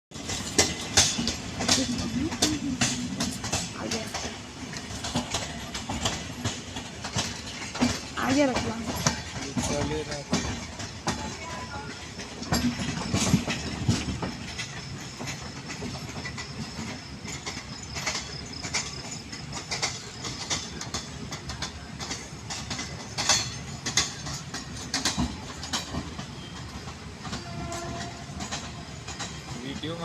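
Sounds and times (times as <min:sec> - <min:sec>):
train wheels clacking over rail joints: 0:00.1 - 0:30.0.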